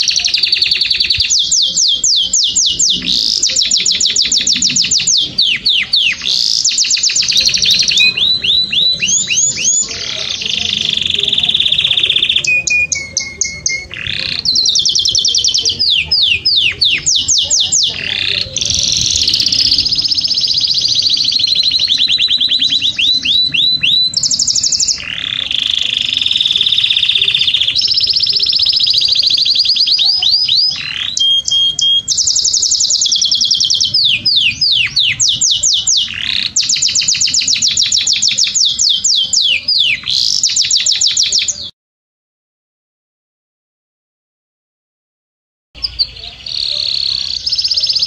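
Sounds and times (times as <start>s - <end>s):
canary singing: 0.0s - 41.7s, 45.8s - 48.0s.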